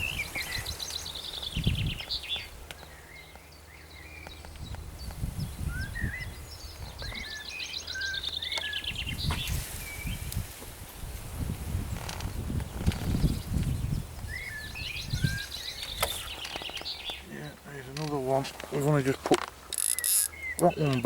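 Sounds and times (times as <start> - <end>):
songbirds trilling and chirping: 0.0 - 21.0.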